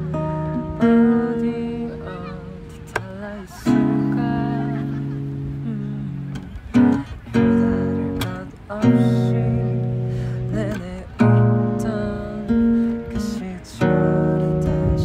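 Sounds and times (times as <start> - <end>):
acoustic guitar chords strummed: 0.0 - 15.0
man singing slow song: 0.0 - 15.0.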